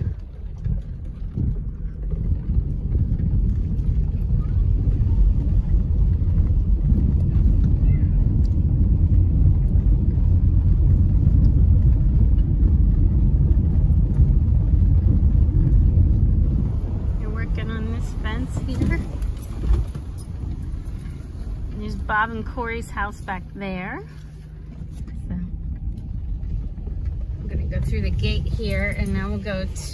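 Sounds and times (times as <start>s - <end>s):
car rumbling on dirt road: 0.0s - 29.9s.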